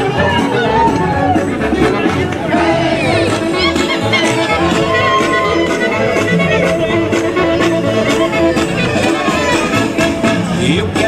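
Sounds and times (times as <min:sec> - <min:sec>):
instrumental polka band music: 0:00.0 - 0:11.0.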